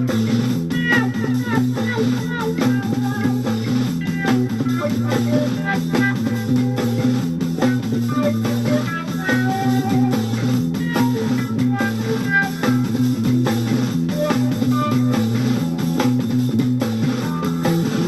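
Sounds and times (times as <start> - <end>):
electric bass line: 0.0 - 18.0
electric guitar: 0.0 - 18.0
steady drums: 0.0 - 18.0.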